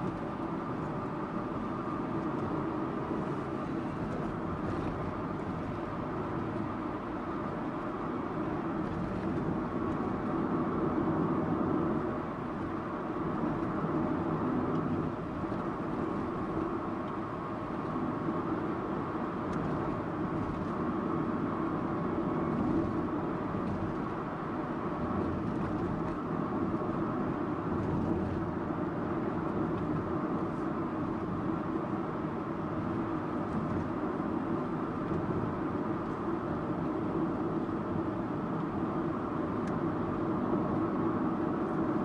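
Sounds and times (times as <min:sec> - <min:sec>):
road and tyre noise: 0:00.0 - 0:42.0.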